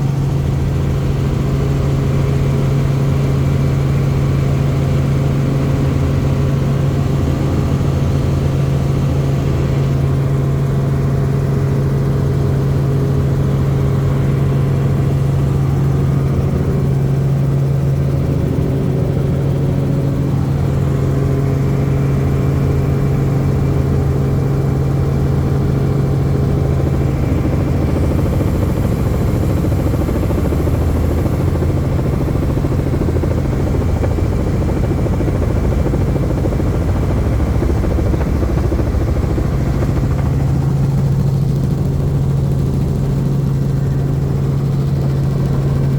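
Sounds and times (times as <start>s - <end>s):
helicopter engine and rotors drone: 0.0s - 45.9s.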